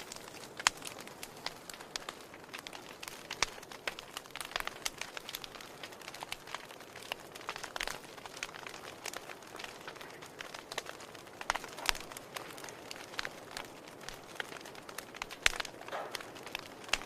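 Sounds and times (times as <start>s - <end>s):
campfire crackling: 0.0s - 17.0s
flames hissing: 0.0s - 17.0s.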